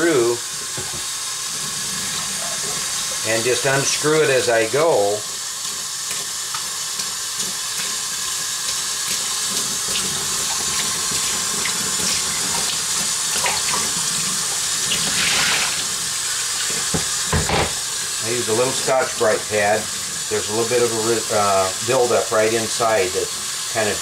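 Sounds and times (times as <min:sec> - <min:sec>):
faucet water running into sink: 0:00.0 - 0:24.0.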